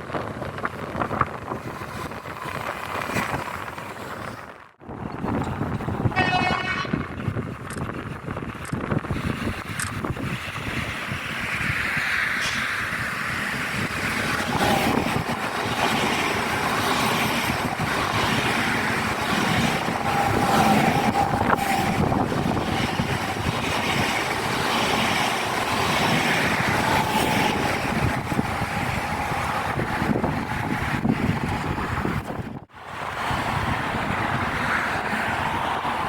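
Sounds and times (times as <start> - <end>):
train rushing past on rails: 0.0 - 36.0.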